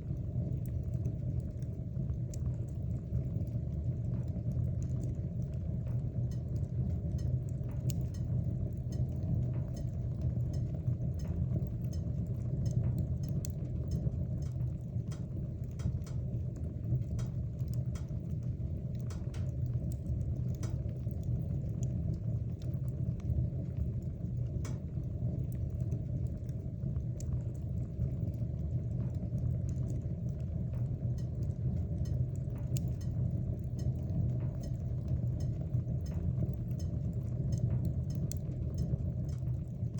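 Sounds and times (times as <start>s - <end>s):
burning wood crackling and popping: 0.0s - 39.9s
fire rumbling: 0.0s - 39.9s.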